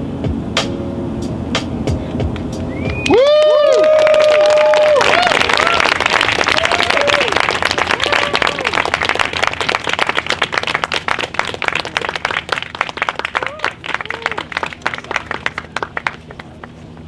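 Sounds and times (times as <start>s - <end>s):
audience cheering: 2.7s - 16.7s
audience applauding: 2.7s - 17.0s.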